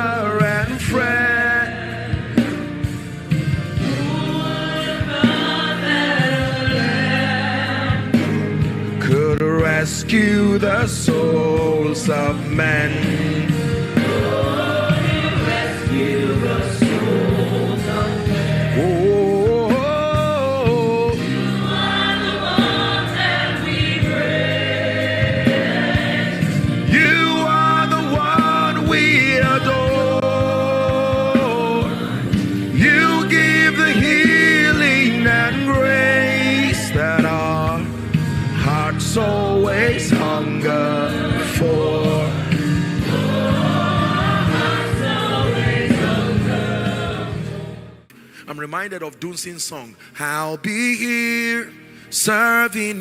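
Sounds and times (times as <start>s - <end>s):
choir singing held notes: 0.0s - 8.7s, 10.4s - 48.3s
band with drum beat: 0.0s - 47.6s
instrumental backing music: 0.0s - 53.0s.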